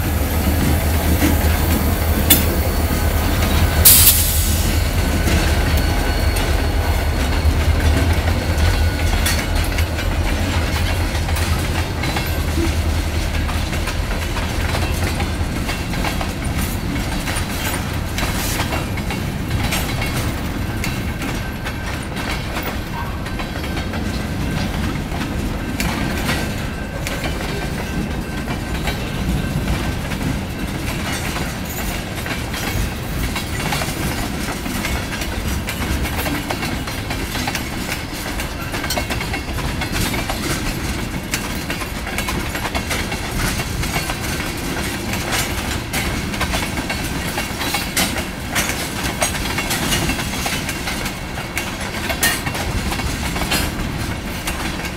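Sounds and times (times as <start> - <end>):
freight train rumble: 0.0 - 54.9
train wheels clacking on rails: 0.0 - 54.9.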